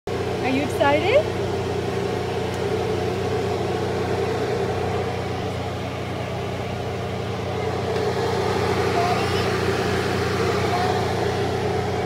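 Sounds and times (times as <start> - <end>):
miniature train engine droning: 0.1 - 12.0.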